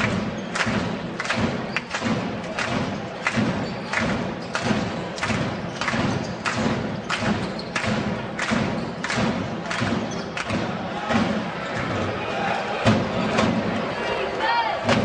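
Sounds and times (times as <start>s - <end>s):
spectators clapping: 0.0s - 15.0s
spectators drumming: 0.0s - 15.0s.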